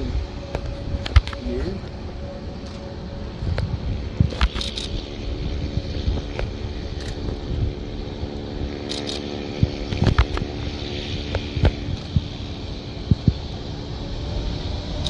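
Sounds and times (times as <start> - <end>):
jet engines humming: 0.0 - 15.0.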